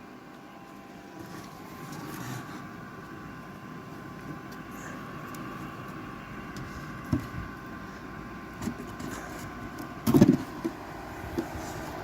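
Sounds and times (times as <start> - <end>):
heater blower fan whirring: 0.0 - 12.0.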